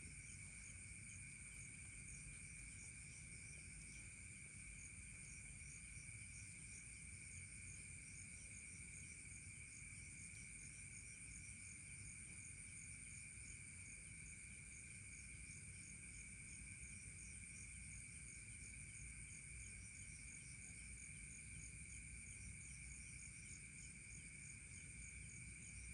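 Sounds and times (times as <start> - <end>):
high insect trills: 0.0 - 25.9
pulsing insect chirp: 0.0 - 25.9.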